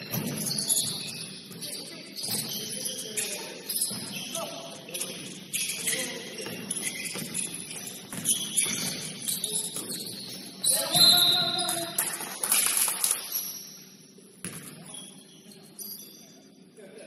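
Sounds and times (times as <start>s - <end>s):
shoe squeaks on court: 0.0s - 12.0s, 13.3s - 16.6s.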